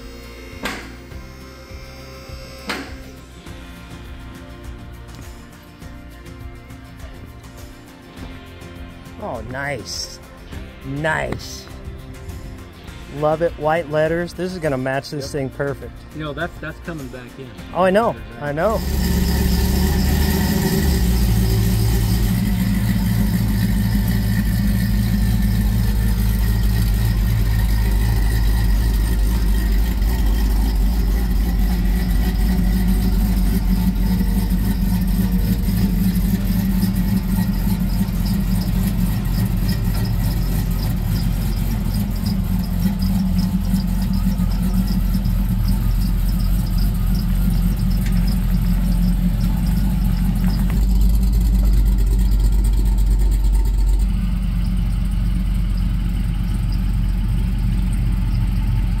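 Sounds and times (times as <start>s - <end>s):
car engine idling: 8.4s - 59.0s.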